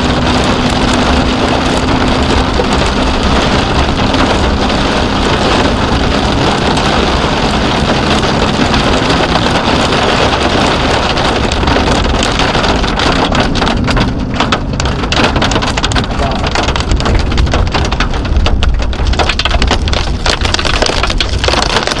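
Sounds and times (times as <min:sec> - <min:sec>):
heavy rain beating on car: 0:00.0 - 0:22.0
strong wind: 0:00.0 - 0:22.0.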